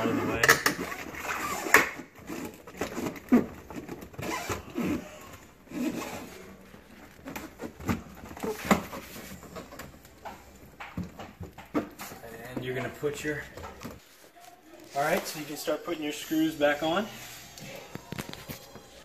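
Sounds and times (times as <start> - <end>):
plastic rubbing against wall: 0.0 - 19.0.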